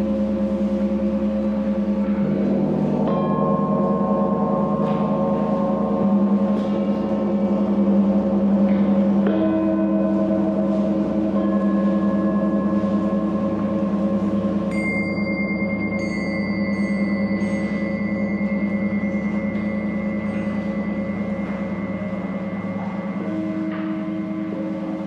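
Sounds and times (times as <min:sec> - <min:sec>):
gong struck with mallet: 0:00.0 - 0:25.0.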